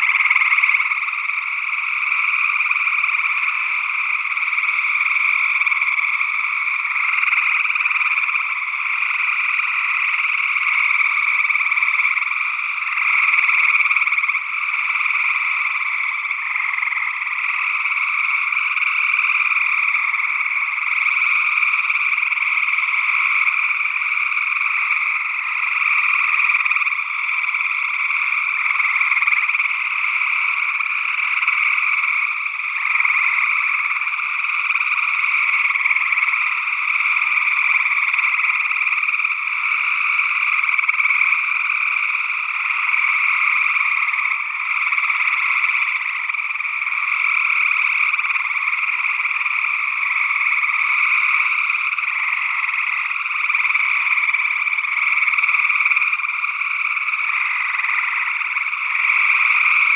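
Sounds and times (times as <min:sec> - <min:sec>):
treefrogs trilling: 0:00.0 - 0:59.9.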